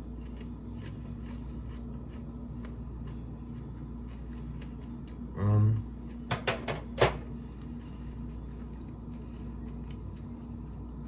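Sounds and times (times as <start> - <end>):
crisp crunches of chewing: 0.0 - 6.3, 7.4 - 11.0.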